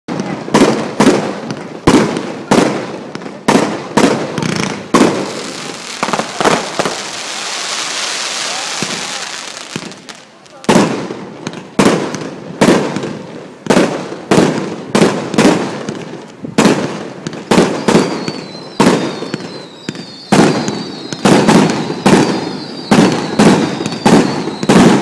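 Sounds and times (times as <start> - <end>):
fireworks bursting with loud bangs: 0.1 - 25.0.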